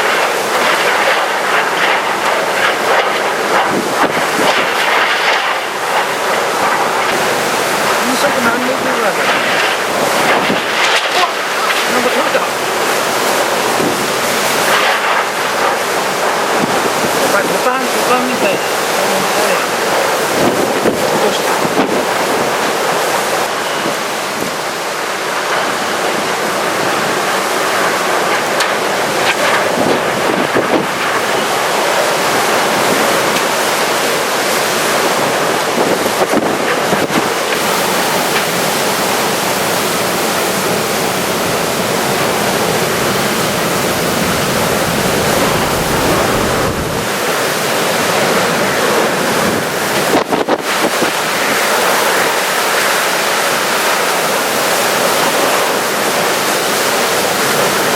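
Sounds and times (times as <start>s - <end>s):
heavy rain: 0.0s - 57.9s
strong wind gusts: 0.0s - 57.9s
wind buffeting microphone: 0.1s - 18.0s, 19.6s - 25.0s, 25.7s - 51.6s.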